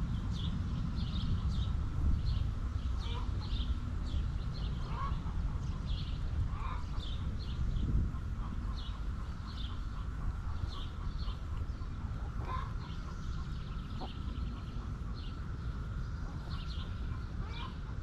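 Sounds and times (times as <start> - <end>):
chickens clucking: 2.9 - 18.0.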